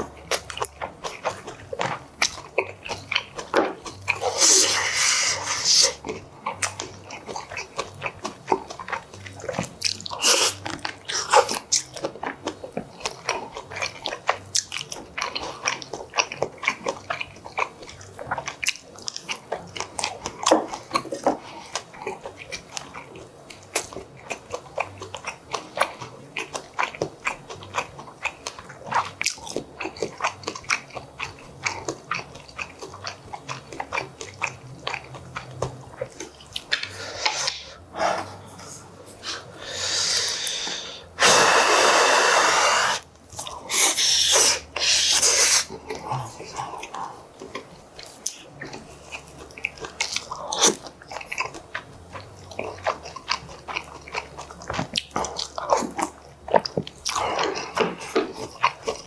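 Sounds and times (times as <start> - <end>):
close-miked wet chewing: 0.0 - 59.0.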